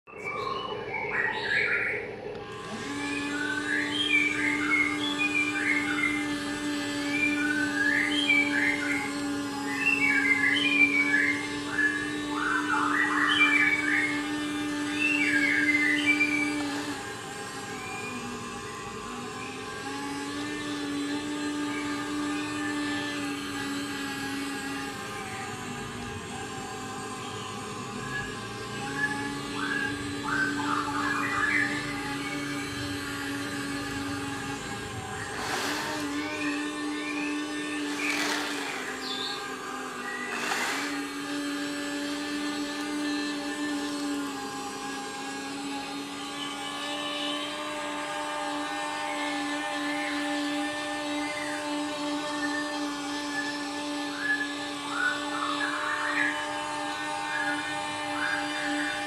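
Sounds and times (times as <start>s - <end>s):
electric motor whine: 0.0s - 59.0s
light motor whir: 0.1s - 59.0s
strong motor hum: 0.1s - 59.0s.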